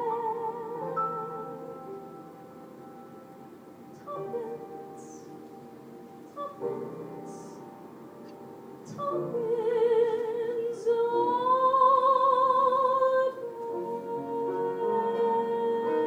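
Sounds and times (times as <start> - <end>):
woman singing with vibrato: 0.0 - 2.7, 3.9 - 5.6, 6.2 - 7.8, 8.8 - 16.0
song accompaniment chords: 0.0 - 16.0.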